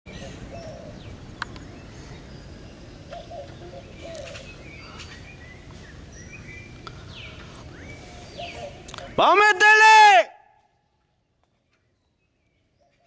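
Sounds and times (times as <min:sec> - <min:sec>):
birds chirping and calling: 0:00.1 - 0:09.5, 0:11.0 - 0:13.0
low outdoor background noise: 0:00.1 - 0:13.0.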